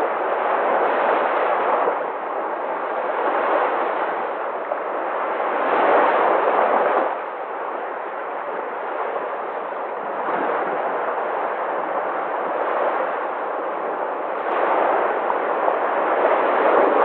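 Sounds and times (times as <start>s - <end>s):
sea waves surging: 0.0s - 17.0s.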